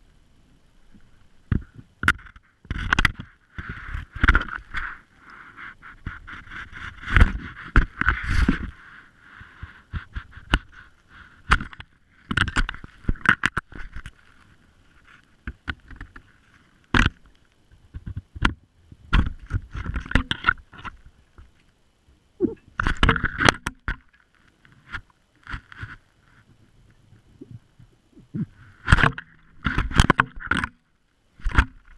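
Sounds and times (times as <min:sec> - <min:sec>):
underwater knocks and scrapes: 0:00.9 - 0:21.6, 0:22.6 - 0:31.9.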